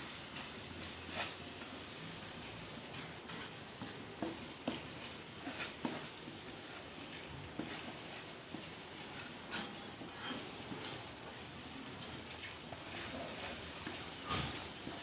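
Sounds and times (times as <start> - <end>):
masala sizzling in oil: 0.0 - 15.0
spatula scraping a pan: 0.0 - 15.0.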